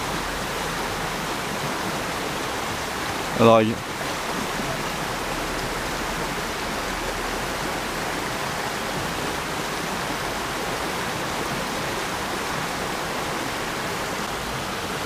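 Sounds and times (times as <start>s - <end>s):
stream flowing over stones: 0.0s - 15.0s.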